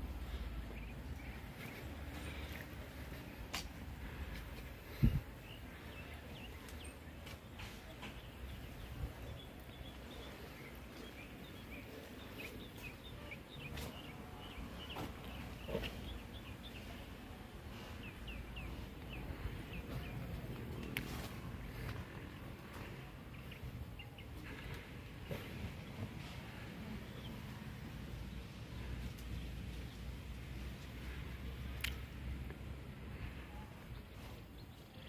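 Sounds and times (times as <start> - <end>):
steady low rumble: 0.0 - 34.7
small birds chirping: 0.0 - 35.0.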